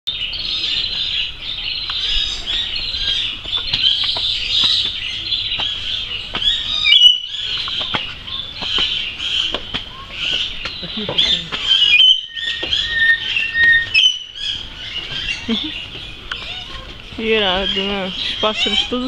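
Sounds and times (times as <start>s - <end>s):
birds chirping in chorus: 0.1s - 19.0s.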